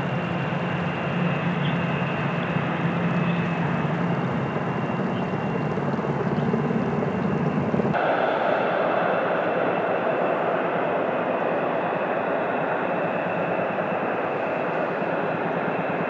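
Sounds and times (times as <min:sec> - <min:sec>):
helicopter rotor whine: 0:00.0 - 0:16.0.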